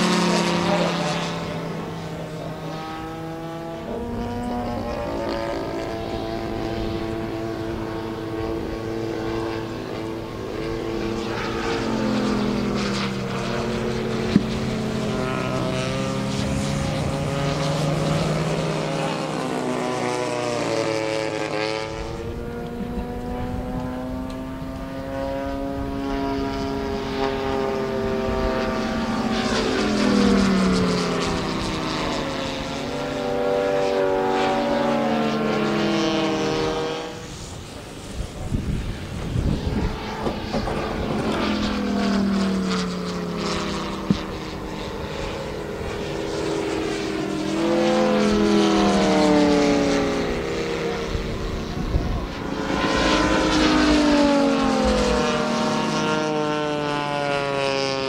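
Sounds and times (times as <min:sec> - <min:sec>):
model plane radial engine passing: 0:00.0 - 0:58.0
second model plane engine: 0:00.0 - 0:58.0.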